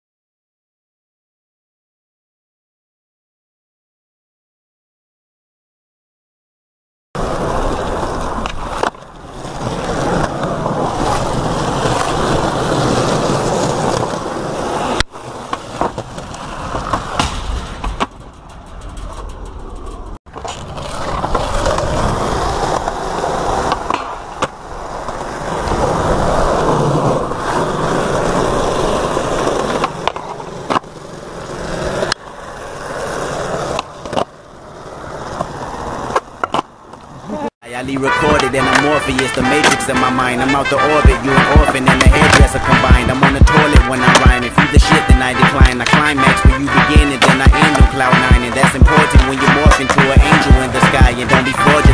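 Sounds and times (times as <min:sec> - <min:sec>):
skateboard clacking: 0:07.2 - 0:37.2, 0:37.8 - 0:51.9
skateboard wheels rolling on pavement: 0:07.2 - 0:51.9.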